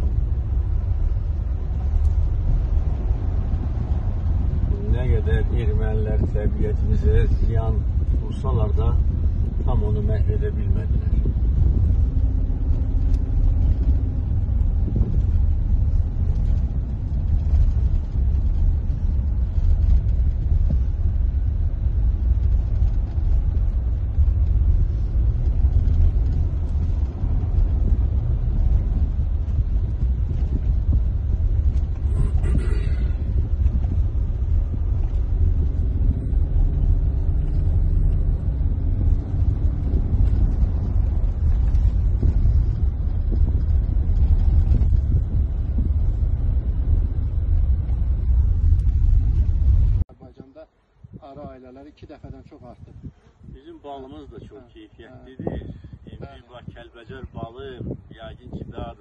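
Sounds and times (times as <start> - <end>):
car interior road and engine rumble: 0.0 - 59.0.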